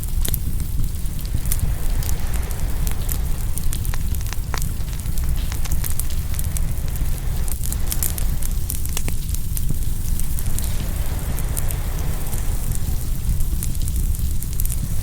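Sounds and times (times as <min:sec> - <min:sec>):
wood fire crackling and popping: 0:00.0 - 0:15.0
low rumble: 0:00.4 - 0:15.0.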